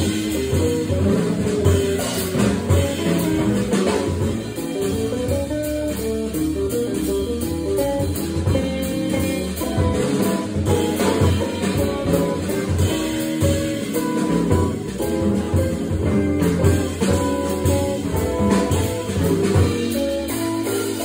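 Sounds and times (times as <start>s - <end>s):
drum kit: 0.0s - 21.0s
low bass notes: 0.0s - 21.0s.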